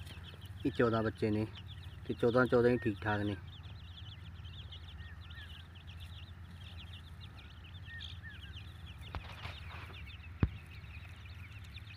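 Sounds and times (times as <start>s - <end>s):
chicks peeping: 0.0s - 11.9s
steady low hum: 0.0s - 11.9s.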